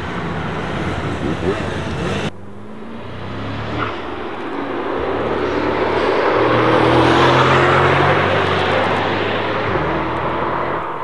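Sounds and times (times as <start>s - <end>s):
car engine accelerating past: 0.0s - 11.0s.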